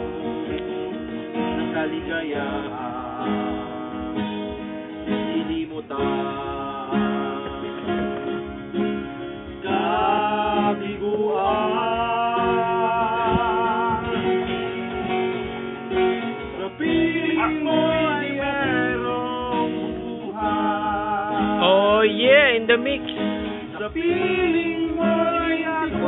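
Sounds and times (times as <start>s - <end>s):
man singing with vibrato: 0.0s - 8.7s, 9.5s - 15.4s, 16.4s - 26.0s
acoustic guitars strummed: 0.0s - 26.0s.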